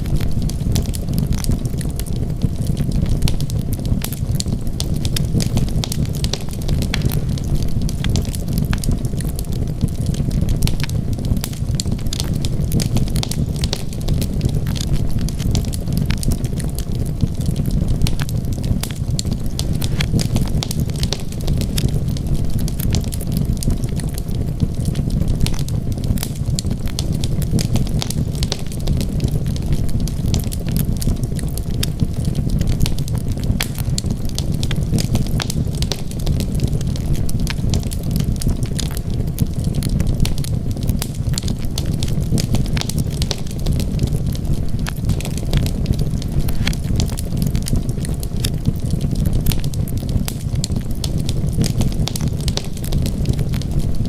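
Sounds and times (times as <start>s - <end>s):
burning wood crackling and popping: 0.0s - 54.0s
fire rumbling: 0.0s - 54.0s.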